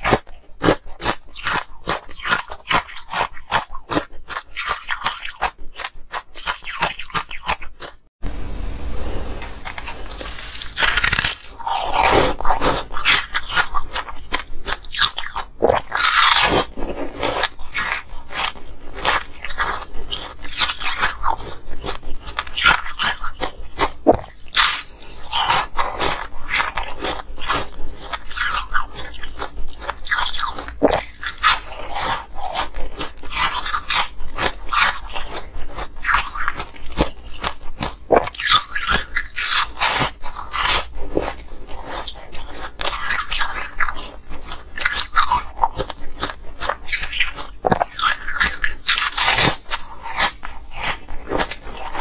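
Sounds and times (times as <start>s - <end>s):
ice crunching while chewed: 0.0s - 8.1s, 9.6s - 52.0s.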